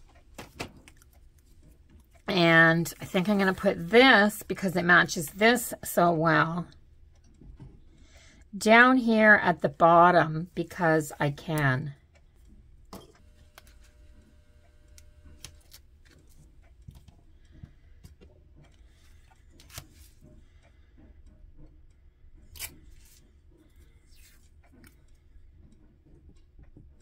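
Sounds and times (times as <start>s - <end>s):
clothes dryer hum: 0.0s - 27.0s.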